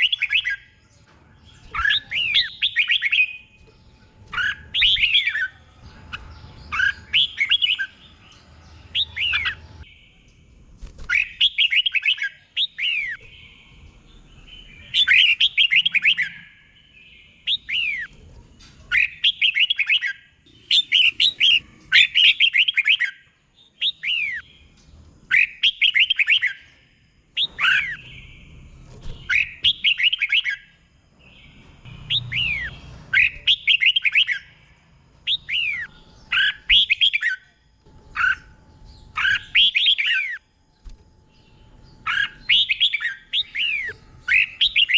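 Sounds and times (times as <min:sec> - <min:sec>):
bird singing whistled notes: 0:00.0 - 0:00.8, 0:01.4 - 0:10.2, 0:11.0 - 0:18.1, 0:18.9 - 0:24.6, 0:25.3 - 0:34.6, 0:35.2 - 0:44.9.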